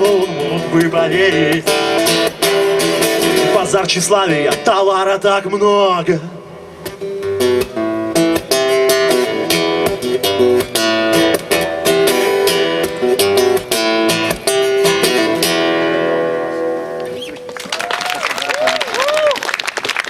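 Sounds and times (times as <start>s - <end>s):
acoustic guitar strumming: 0.0s - 17.6s.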